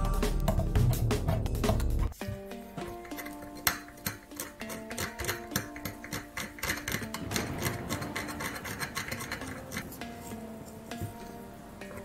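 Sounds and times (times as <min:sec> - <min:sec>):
soft background music: 0:00.0 - 0:12.0
metal pick scraping paint: 0:00.4 - 0:11.4.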